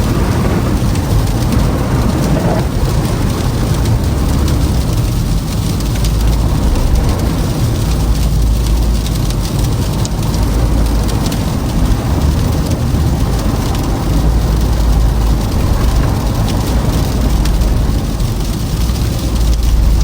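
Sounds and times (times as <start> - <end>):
tyre and road rumble: 0.0 - 20.0.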